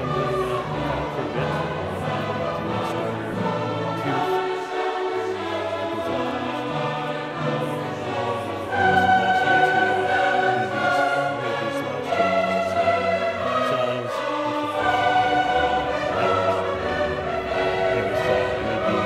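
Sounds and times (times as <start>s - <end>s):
choral music with held notes: 0.0s - 19.0s.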